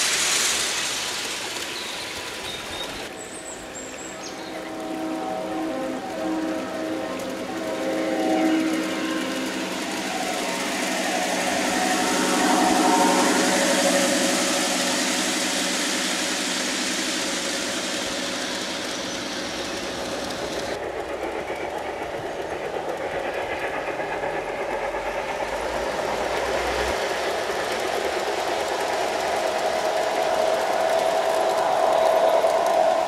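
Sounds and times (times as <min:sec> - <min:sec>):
model train pulsing run: 0:00.0 - 0:33.0
model train wheels clattering: 0:00.0 - 0:33.0.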